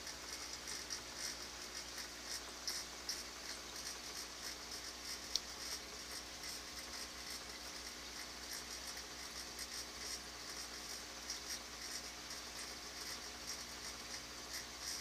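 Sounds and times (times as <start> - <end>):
aquarium water bubbling: 0.0 - 15.0
small ticks: 0.0 - 15.0.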